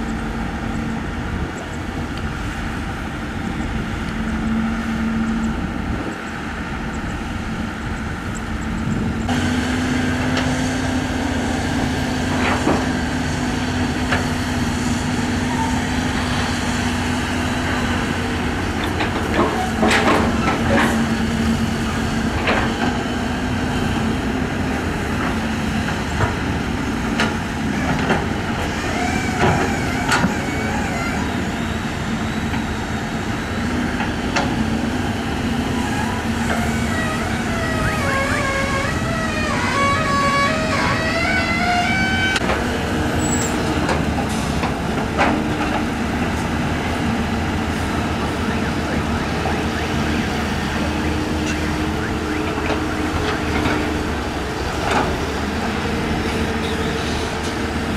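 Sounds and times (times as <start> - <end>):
excavator diesel engines droning: 0.0 - 57.9.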